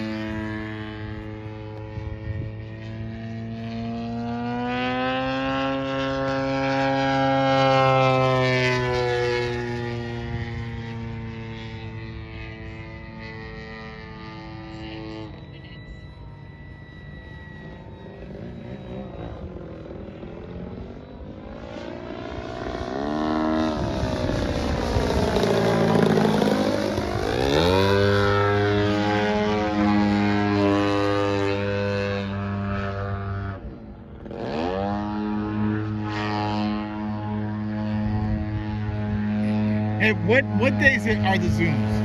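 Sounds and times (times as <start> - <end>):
model airplane motor droning: 0.0 - 42.0.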